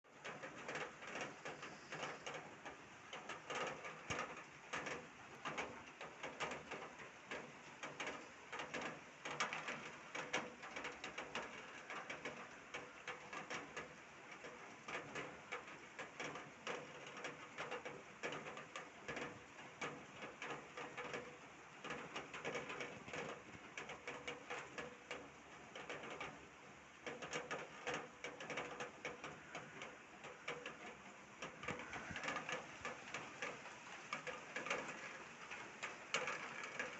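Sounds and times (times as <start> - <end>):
heavy rain: 0.1 - 36.9.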